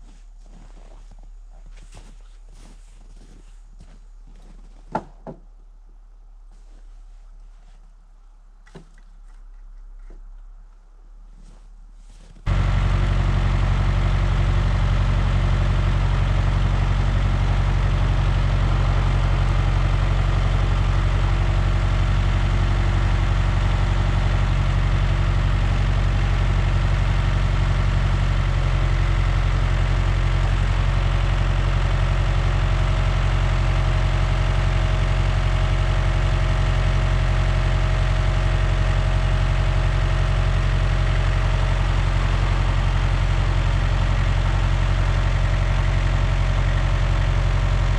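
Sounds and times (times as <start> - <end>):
large engine idling: 0.0 - 47.9.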